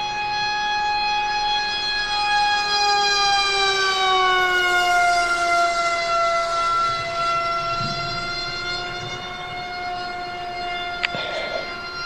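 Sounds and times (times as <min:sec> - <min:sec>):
electric motor and propeller whining: 0:01.2 - 0:12.0.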